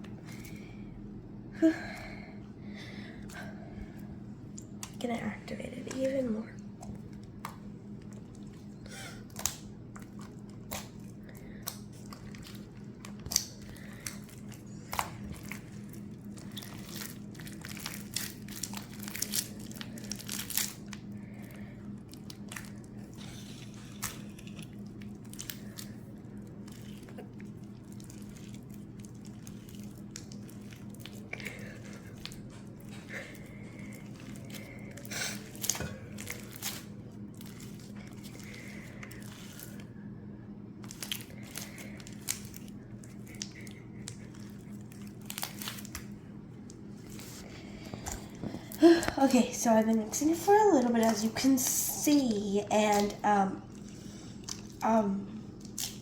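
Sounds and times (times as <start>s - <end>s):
slime clicking and squelching: 4.4s - 39.9s, 40.7s - 54.9s, 55.5s - 56.0s.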